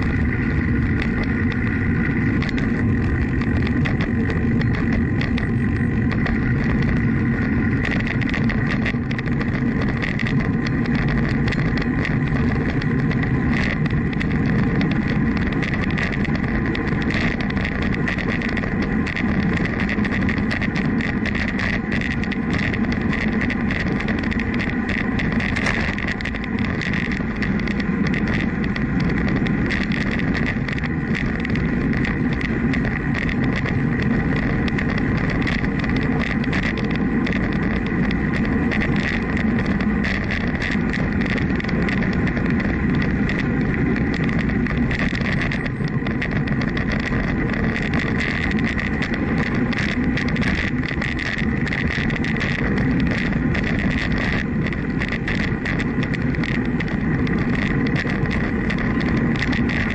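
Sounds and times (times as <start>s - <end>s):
faint steady whine: 0.0s - 59.9s
wind buffeting microphone: 0.0s - 59.9s.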